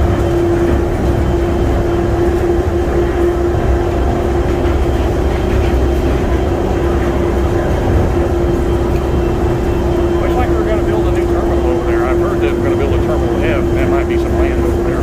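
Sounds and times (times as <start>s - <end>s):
constant whine: 0.0s - 15.0s
train rumble: 0.0s - 15.0s.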